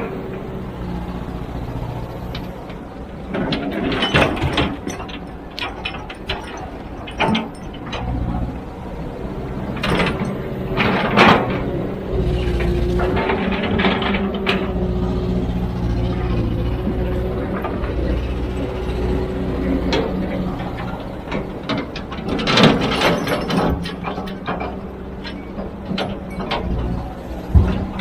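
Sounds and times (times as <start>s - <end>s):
clanking and scraping: 0.0s - 28.0s
excavator diesel engine droning: 0.0s - 28.0s.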